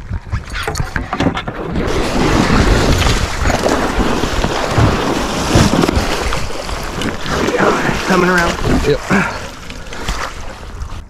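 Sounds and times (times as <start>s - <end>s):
fish thrashing in water: 0.0s - 11.0s.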